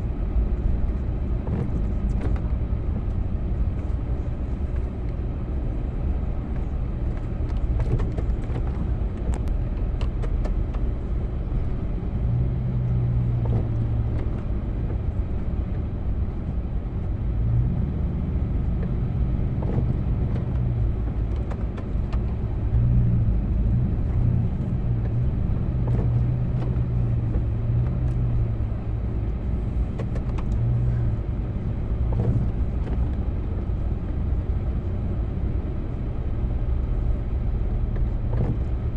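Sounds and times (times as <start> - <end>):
snowplow engine humming: 0.0 - 38.9.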